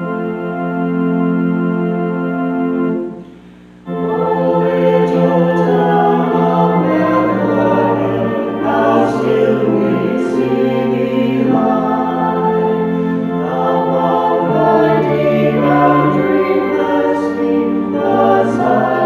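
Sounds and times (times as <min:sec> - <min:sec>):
choir singing a hymn with organ: 0:00.0 - 0:03.2, 0:03.8 - 0:19.0
organ chord: 0:00.0 - 0:19.0.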